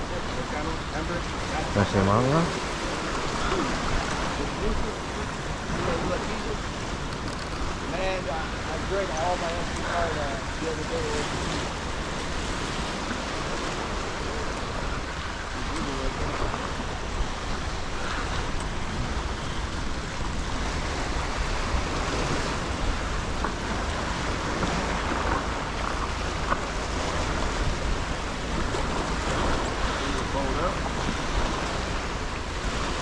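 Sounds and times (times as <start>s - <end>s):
surf washing against rocks: 0.0s - 33.0s
wind rumbling on microphone: 0.0s - 33.0s.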